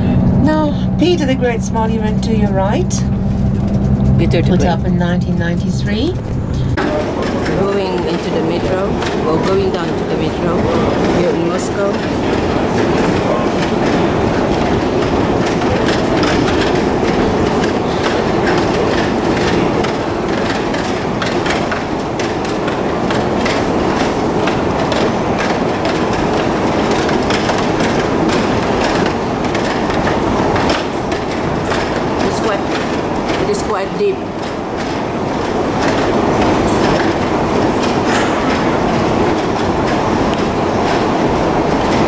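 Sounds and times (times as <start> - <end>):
clattering clicks of escalator steps: 0.0 - 42.0
escalator mechanical rumble: 0.0 - 42.0.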